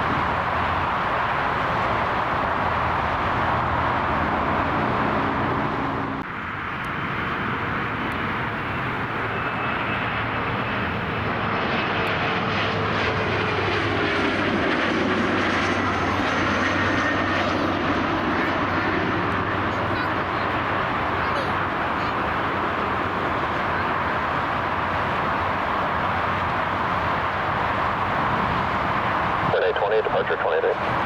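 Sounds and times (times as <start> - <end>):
airliner engines roaring: 0.0 - 31.0
engine whine: 0.0 - 31.0.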